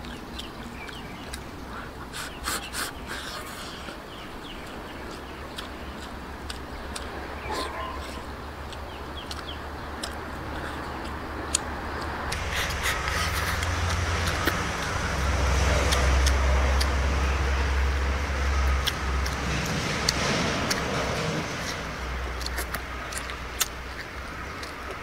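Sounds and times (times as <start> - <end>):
person chewing: 0.0 - 25.0.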